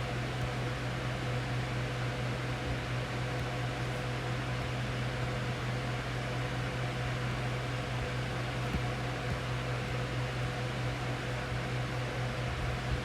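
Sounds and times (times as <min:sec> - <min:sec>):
fan noise: 0:00.0 - 0:13.0.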